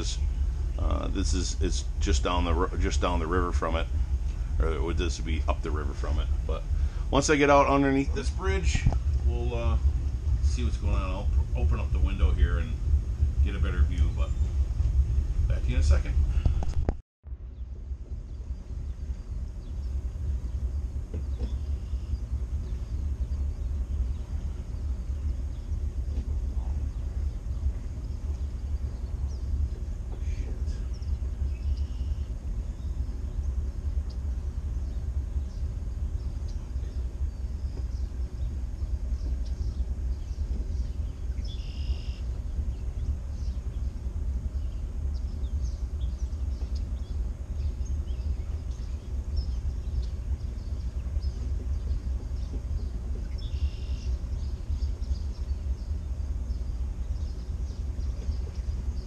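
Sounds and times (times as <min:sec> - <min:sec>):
bird calls: 0:00.0 - 0:16.7, 0:18.2 - 0:59.0
motor boat engine: 0:00.0 - 0:59.0.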